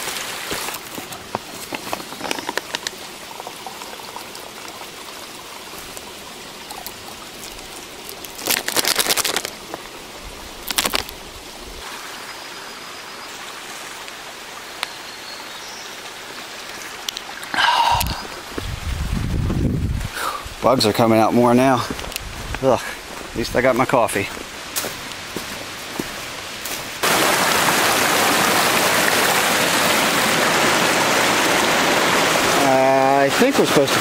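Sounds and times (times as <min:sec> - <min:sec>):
water rushing bursts: 0:00.0 - 0:15.1, 0:15.9 - 0:34.0.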